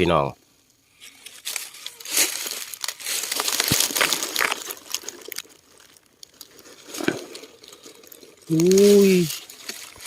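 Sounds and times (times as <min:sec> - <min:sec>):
dry leaves and soil crunching: 0:00.9 - 0:10.0.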